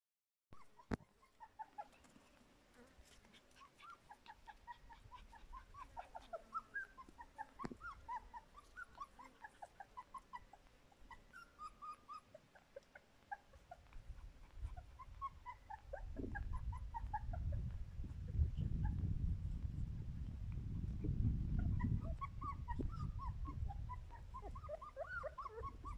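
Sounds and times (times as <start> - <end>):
puppies whimpering: 0.6 - 19.0, 20.8 - 25.9.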